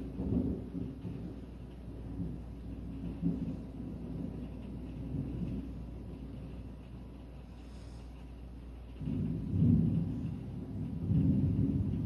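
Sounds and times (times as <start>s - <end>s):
thunder rumbling: 0.0s - 7.1s, 8.8s - 12.0s
steady rain: 0.0s - 12.0s.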